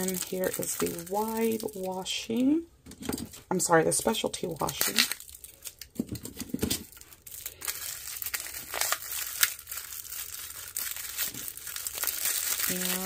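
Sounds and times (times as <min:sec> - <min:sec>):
tape wrapper crinkling and tearing: 0:00.0 - 0:02.1, 0:03.0 - 0:13.0.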